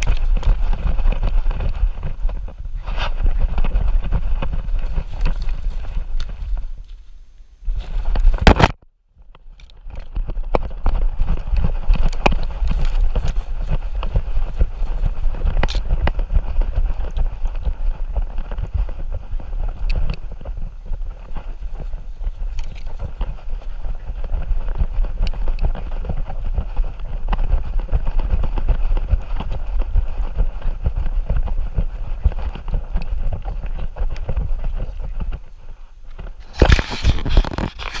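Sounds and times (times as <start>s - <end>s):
fur rubbing on microphone: 0.0s - 8.5s, 10.0s - 38.0s.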